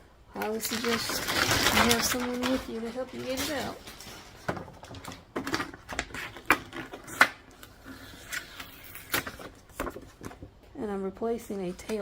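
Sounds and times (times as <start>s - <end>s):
packaging rustling: 0.4s - 10.5s.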